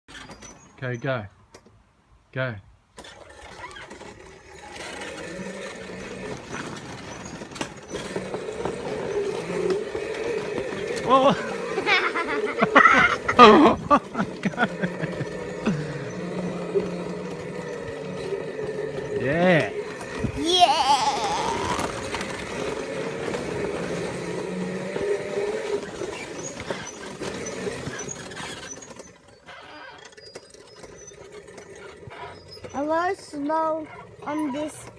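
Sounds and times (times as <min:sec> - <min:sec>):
quad bike motor running: 0:03.0 - 0:34.9.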